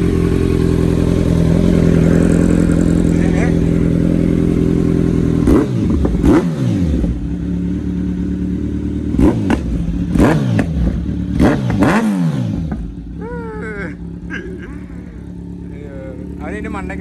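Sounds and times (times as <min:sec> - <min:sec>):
motorcycle idling and revving: 0:00.0 - 0:17.0.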